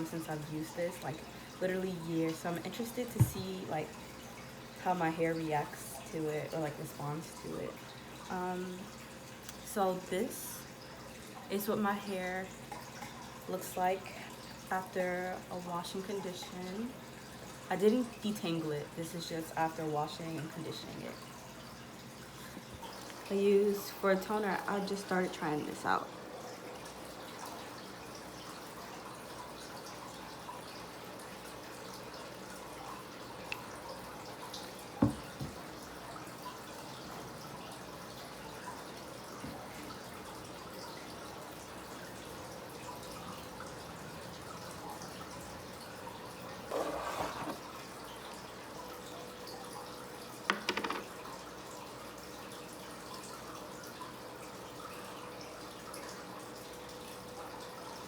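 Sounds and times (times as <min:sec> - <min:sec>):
faint room hiss and hum: 0:00.0 - 0:58.0.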